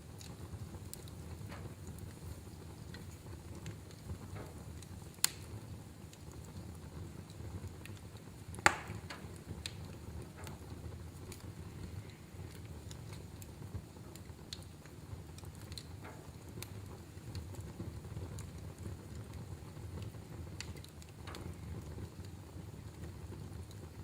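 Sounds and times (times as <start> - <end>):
low steady fire rumble: 0.0 - 24.0
wood fire crackling and popping: 0.0 - 24.0.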